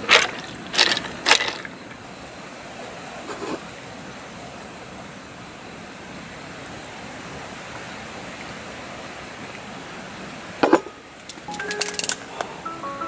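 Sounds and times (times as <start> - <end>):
wind through trees: 0.0 - 13.0.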